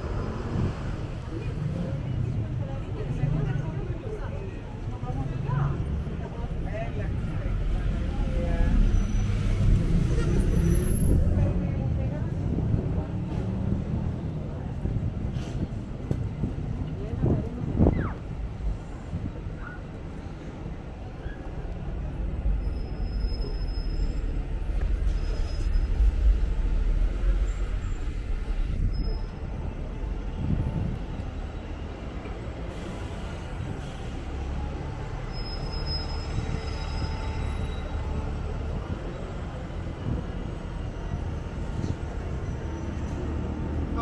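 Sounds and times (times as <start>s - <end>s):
bus diesel engine rumbling: 0.0s - 44.0s
street traffic: 0.0s - 44.0s.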